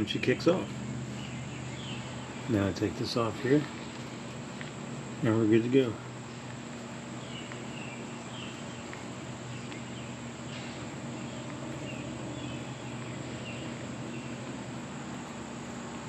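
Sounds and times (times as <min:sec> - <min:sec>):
insects chirping: 0:00.0 - 0:16.0
steady low hum: 0:00.0 - 0:16.0.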